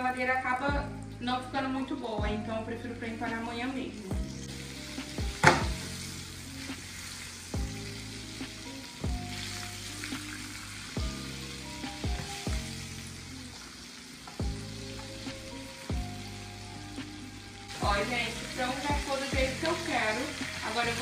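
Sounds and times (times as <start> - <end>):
chicken sizzling in oil: 3.0 - 21.0.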